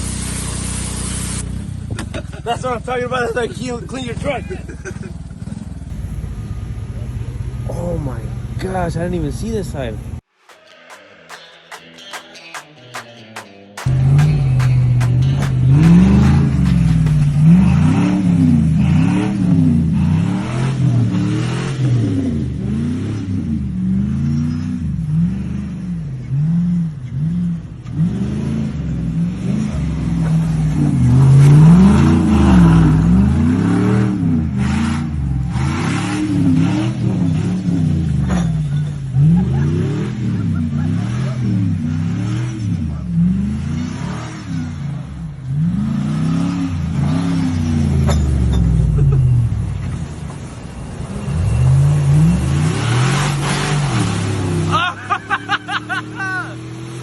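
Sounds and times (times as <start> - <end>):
truck engine revving: 10.0 - 57.0.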